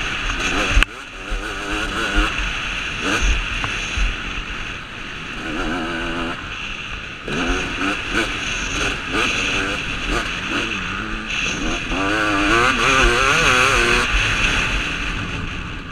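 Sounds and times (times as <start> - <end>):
motocross engine revving: 0.0 - 4.5, 5.2 - 15.4
wind rushing over microphone: 0.0 - 15.9.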